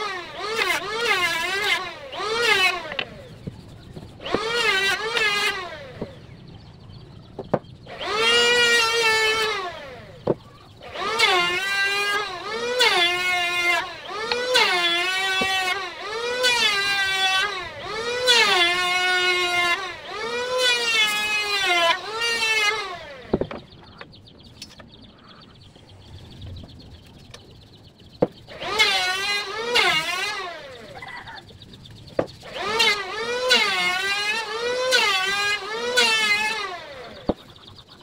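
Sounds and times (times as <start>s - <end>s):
engine revving in bursts: 0.0s - 6.6s, 7.8s - 24.0s, 27.7s - 31.5s, 32.4s - 38.0s.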